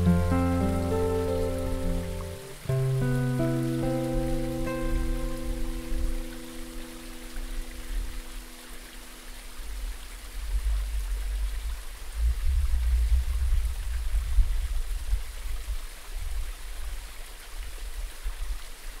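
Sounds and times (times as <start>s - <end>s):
low uneven rumble: 0.0s - 16.9s
stream cascading over rocks: 0.0s - 19.0s.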